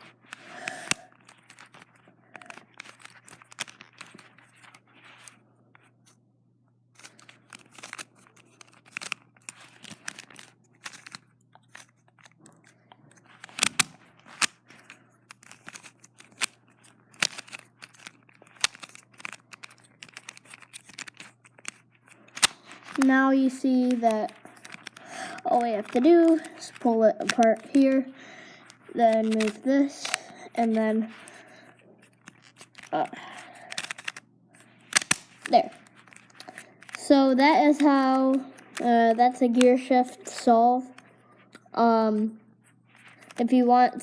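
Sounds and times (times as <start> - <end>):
plastic puzzle pieces clicking: 0.2 - 5.9, 7.0 - 42.4, 43.0 - 44.0.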